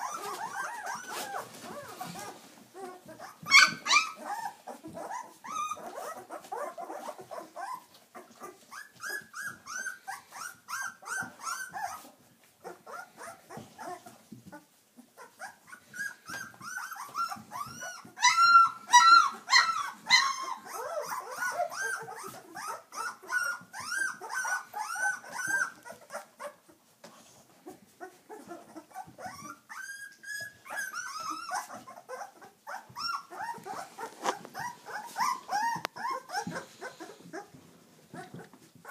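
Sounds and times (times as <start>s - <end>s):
puppies whining and yipping: 0.0s - 38.9s.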